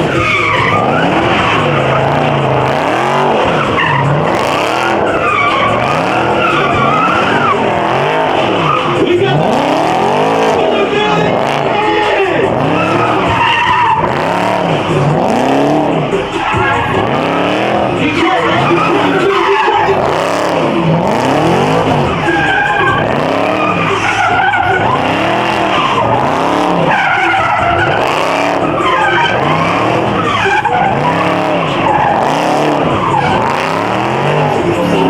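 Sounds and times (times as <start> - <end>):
car engine revving high: 0.0 - 35.0
tyres screeching: 0.0 - 35.0.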